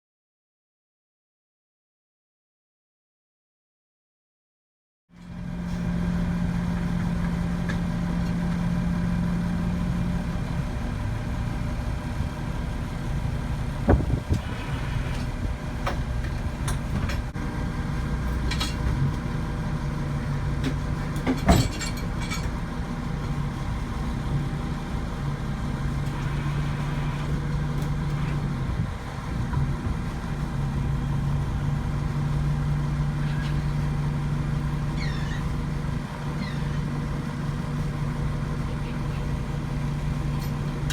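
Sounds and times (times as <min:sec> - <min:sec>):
truck engine running: 0:05.2 - 0:40.9.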